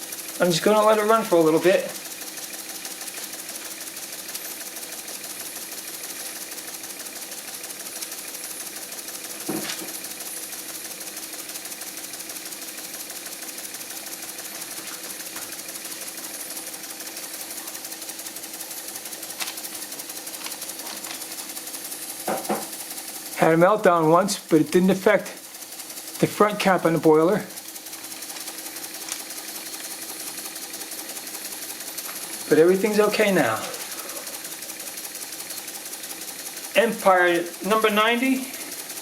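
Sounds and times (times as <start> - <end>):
toy steam engine rattling: 0.0 - 39.0.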